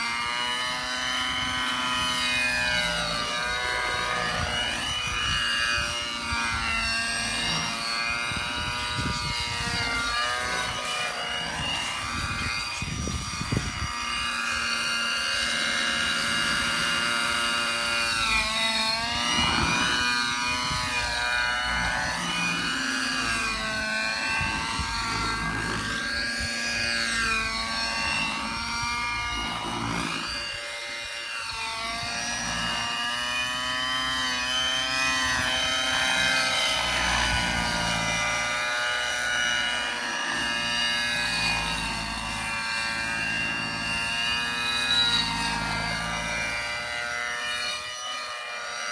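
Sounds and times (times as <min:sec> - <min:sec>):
rc helicopter engine and rotor whine: 0:00.0 - 0:48.9.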